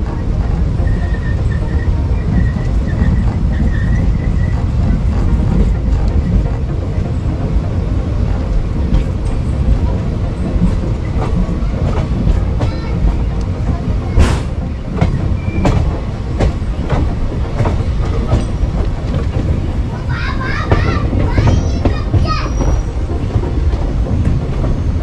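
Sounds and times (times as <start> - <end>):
train rumbling on track: 0.0 - 25.0
wheels clacking over rail joints: 0.0 - 25.0.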